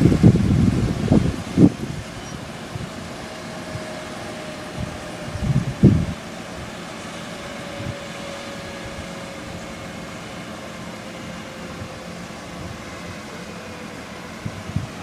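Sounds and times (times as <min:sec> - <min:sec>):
faint whine falling in pitch: 0:00.0 - 0:15.0
helicopter engine and rotor noise: 0:00.0 - 0:15.0.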